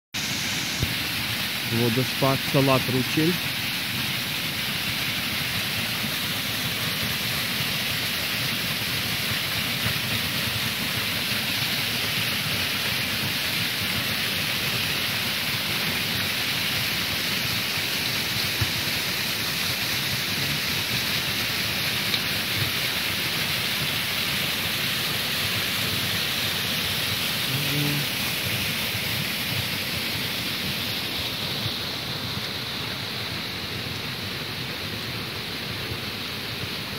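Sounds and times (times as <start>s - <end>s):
waterfall splashing onto rocks: 0.2s - 36.9s.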